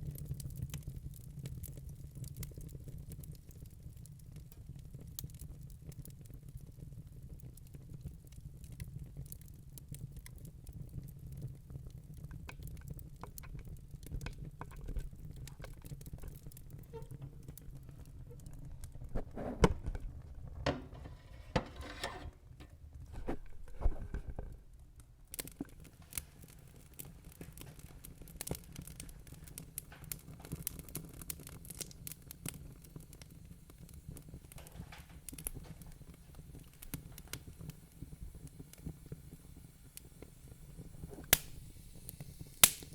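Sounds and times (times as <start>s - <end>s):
low rumble of flame: 0.0s - 42.9s
wood fire crackling and popping: 0.0s - 42.9s.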